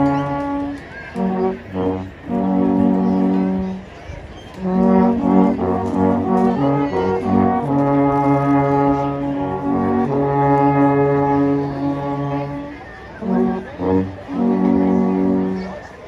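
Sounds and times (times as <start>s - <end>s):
alphorns playing in harmony: 0.0s - 16.0s.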